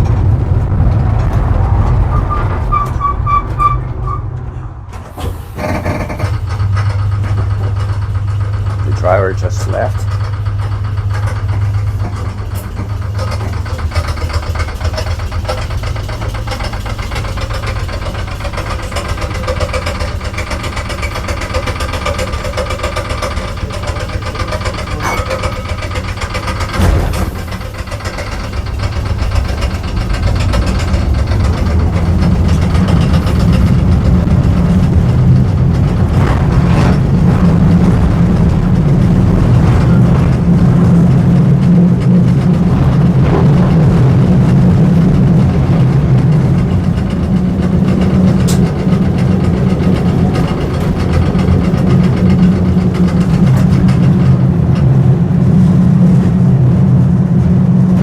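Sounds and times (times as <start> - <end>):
electric tram rumbling: 0.0 - 58.0.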